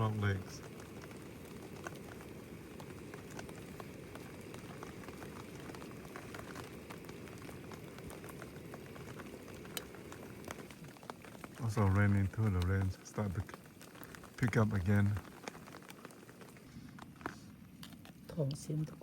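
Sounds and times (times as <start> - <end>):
light rain ticks: 0.0 - 19.0
pot boiling over campfire: 0.0 - 19.0.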